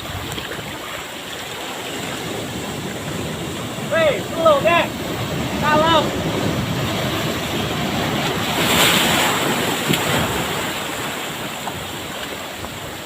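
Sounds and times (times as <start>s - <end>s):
wind buffeting microphone: 0.0s - 13.0s
ocean wave crashing: 1.2s - 12.8s.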